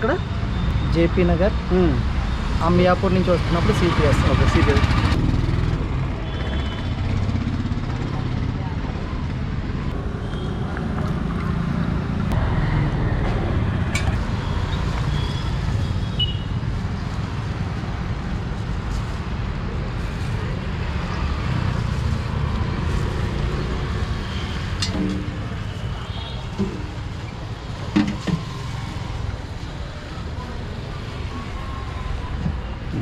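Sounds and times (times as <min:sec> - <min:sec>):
low rumble of road traffic: 0:00.0 - 0:33.0.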